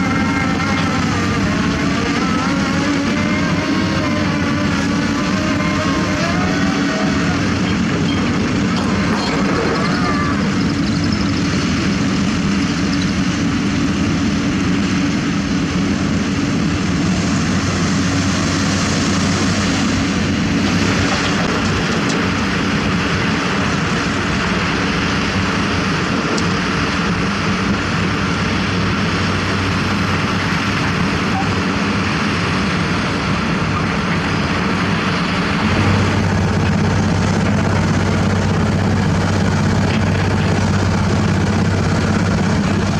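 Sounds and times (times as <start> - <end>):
diesel engine droning: 0.0 - 42.9.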